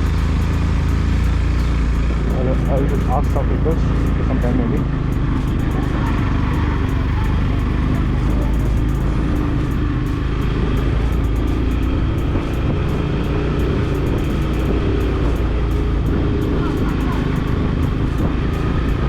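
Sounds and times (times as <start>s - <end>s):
road noise: 0.0s - 19.0s
vehicle engine running: 0.0s - 19.0s.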